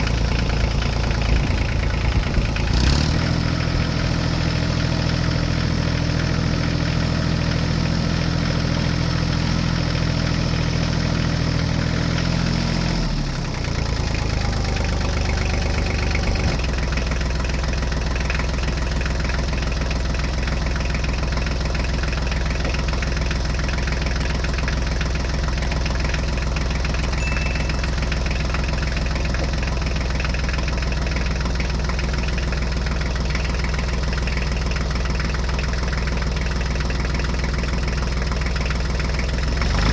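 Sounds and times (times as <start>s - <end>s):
tractor engine idling with knocking: 0.0s - 39.9s.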